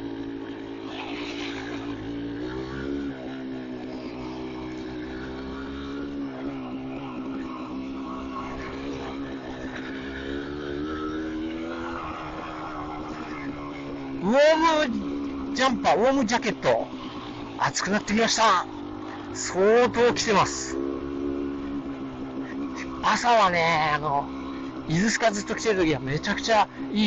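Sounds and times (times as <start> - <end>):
two-stroke motorcycle engine running: 0.0 - 27.0.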